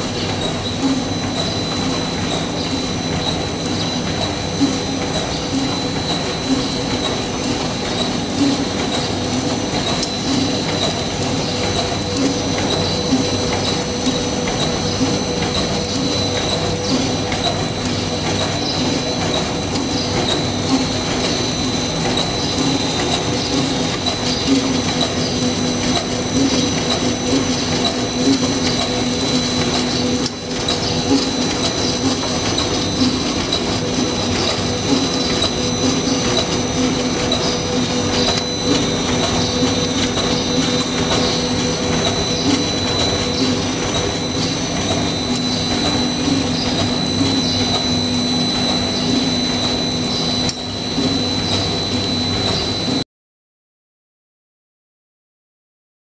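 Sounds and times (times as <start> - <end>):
machine humming with high whine: 0.0 - 53.0.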